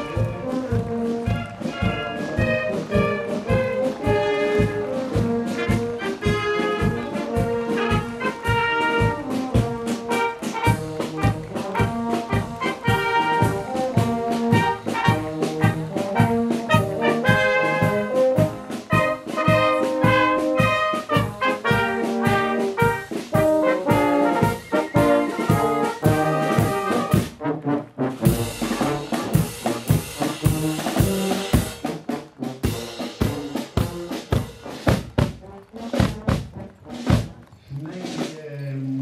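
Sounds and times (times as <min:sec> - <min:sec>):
brass band playing a march: 0:00.0 - 0:38.3.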